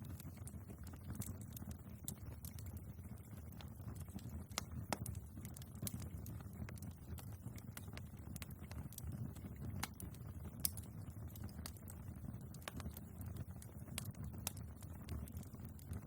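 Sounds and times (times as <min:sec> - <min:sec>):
fire flames rumbling: 0:00.0 - 0:16.0
logs crackling and popping: 0:00.0 - 0:16.0.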